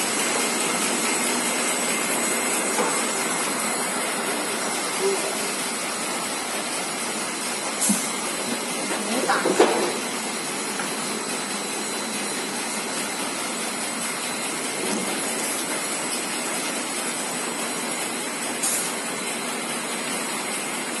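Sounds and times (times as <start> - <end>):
thin steady whine: 0.0 - 21.0.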